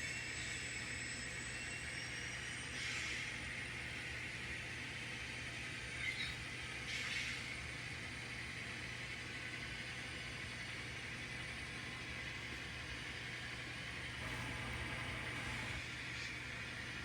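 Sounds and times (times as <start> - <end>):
model train diesel engine sound: 0.0 - 17.0.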